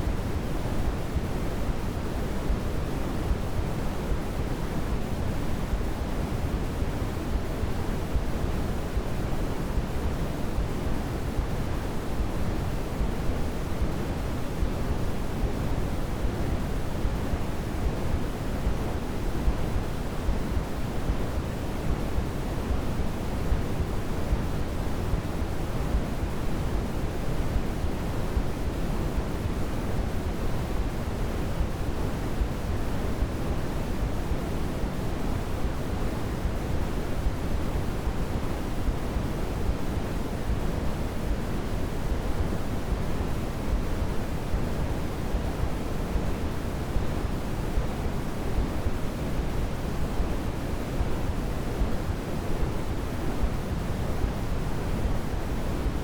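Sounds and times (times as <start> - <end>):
deep pink noise hiss: 0.0 - 56.0.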